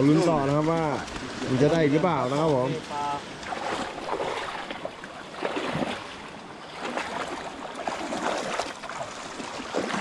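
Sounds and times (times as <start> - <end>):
rushing stream water: 0.0 - 10.0
small water splashes: 0.3 - 10.0.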